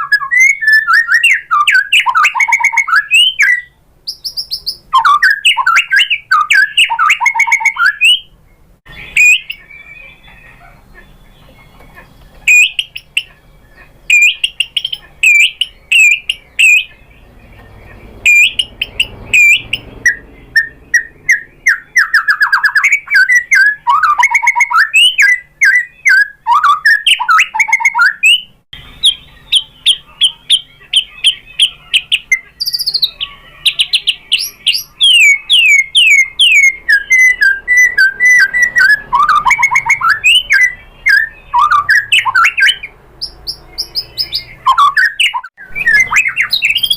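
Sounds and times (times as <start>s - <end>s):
bird singing whistled notes: 0.0s - 46.9s.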